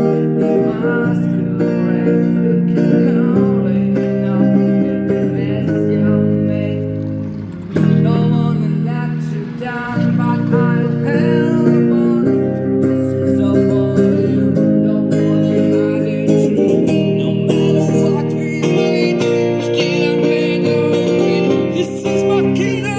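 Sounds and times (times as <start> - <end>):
electric guitar chords: 0.0 - 22.9
guitar melody line: 0.0 - 22.9.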